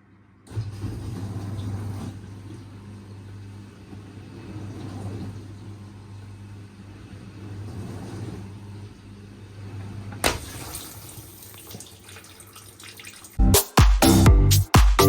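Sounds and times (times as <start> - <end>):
dishwasher pump hum: 0.5 - 13.4.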